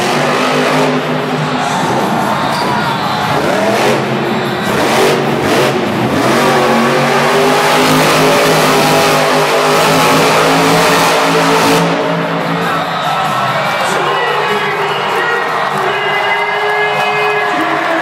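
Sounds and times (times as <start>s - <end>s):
monster truck engine revving loudly: 0.0s - 18.0s.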